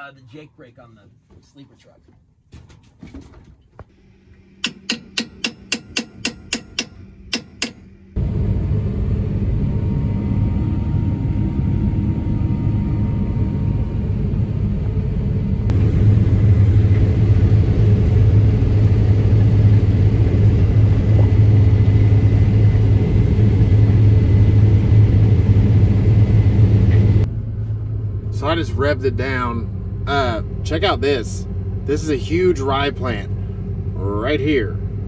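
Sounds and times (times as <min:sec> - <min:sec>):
diesel engine droning: 0:03.9 - 0:35.0.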